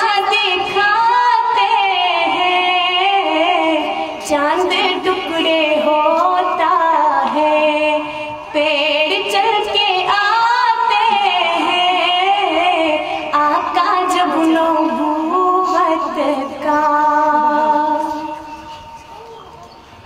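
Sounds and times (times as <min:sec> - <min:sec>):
woman singing devotional song: 0:00.0 - 0:18.7.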